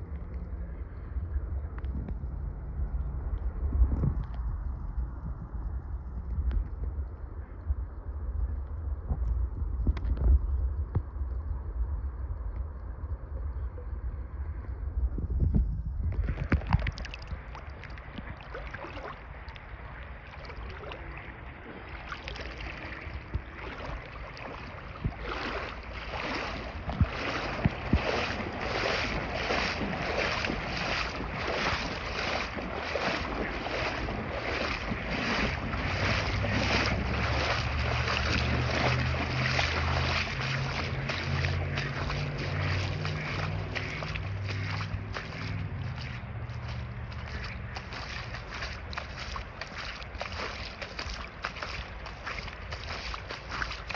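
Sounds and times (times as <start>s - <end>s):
stream water rippling: 0.0s - 15.1s, 16.0s - 53.9s
wind on microphone: 0.0s - 53.9s.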